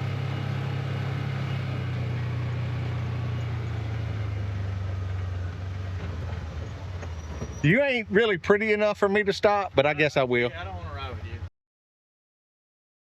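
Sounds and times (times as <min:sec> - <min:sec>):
vehicle engine humming: 0:00.0 - 0:11.5.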